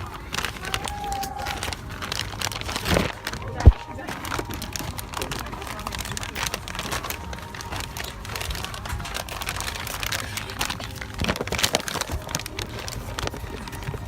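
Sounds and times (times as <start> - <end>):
low cabin hum: 0.0 - 14.0
rustling and clicking: 0.0 - 14.0.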